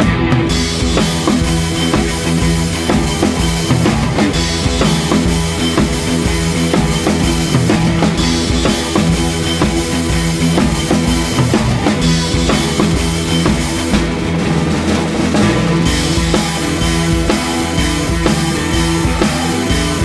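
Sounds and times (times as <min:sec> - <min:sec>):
bass line: 0:00.0 - 0:20.0
drum kit beat: 0:00.0 - 0:20.0.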